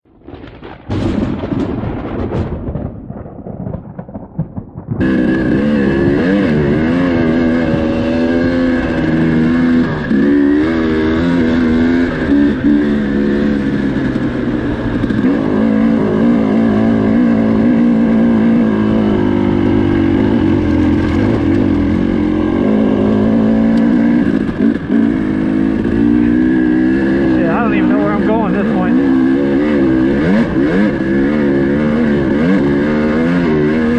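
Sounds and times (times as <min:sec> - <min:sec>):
dirt bike engine revving: 0:05.0 - 0:33.9.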